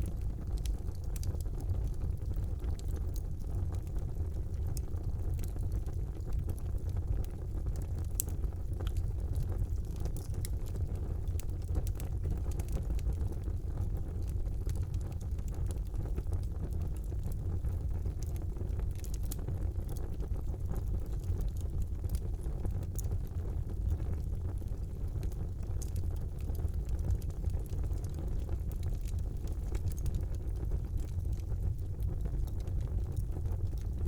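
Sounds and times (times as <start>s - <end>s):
fire burning in a fireplace: 0.0s - 34.0s
fire crackling and popping: 0.0s - 34.0s.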